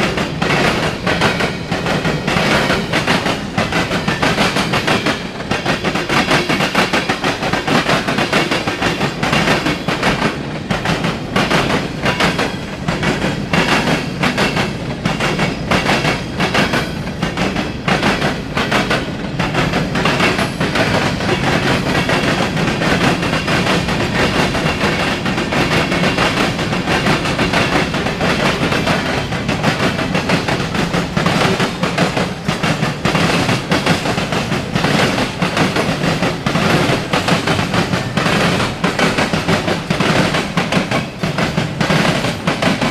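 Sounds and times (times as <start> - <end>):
train wheels clicking over rail joints: 0.0 - 42.9.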